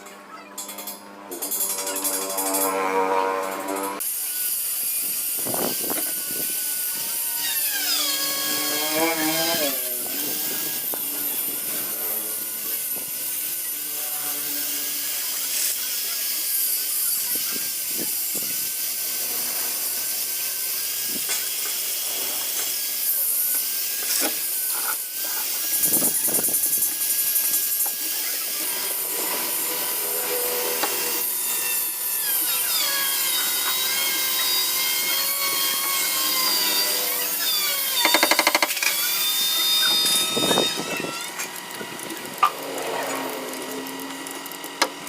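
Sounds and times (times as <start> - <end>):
power tool whining: 0.0 - 45.0.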